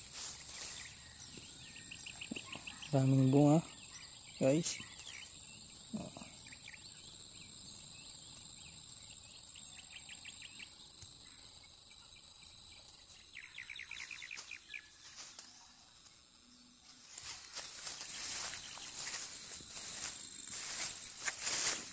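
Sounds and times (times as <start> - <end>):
insects shrilling: 0.0 - 21.9
bird chirping: 0.2 - 15.9, 17.9 - 20.0.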